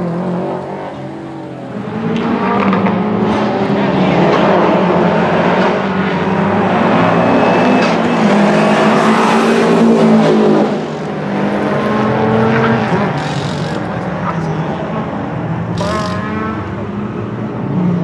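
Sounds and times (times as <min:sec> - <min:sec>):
car engine running hard: 0:00.0 - 0:18.0.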